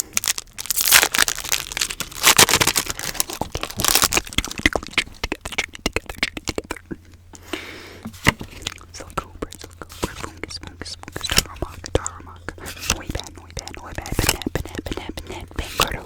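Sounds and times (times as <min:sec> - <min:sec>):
card packaging crinkling and clicking: 0:00.0 - 0:06.4, 0:08.1 - 0:16.0.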